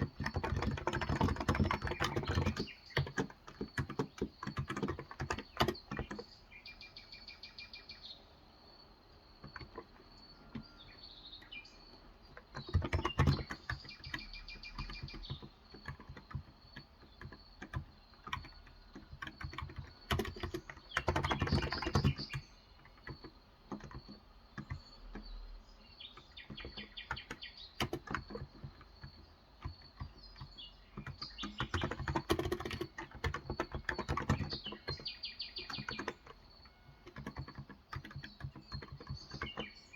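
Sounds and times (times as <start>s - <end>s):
soft keyboard keystrokes: 0.0s - 6.8s, 9.4s - 39.9s
birds chirping: 0.0s - 39.9s.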